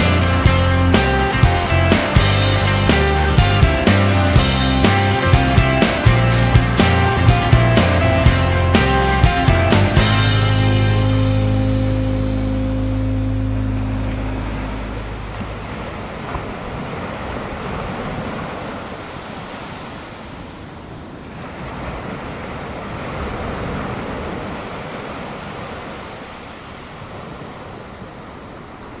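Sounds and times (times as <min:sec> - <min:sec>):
ocean surf breaking: 0:00.0 - 0:29.0
wind: 0:00.0 - 0:29.0.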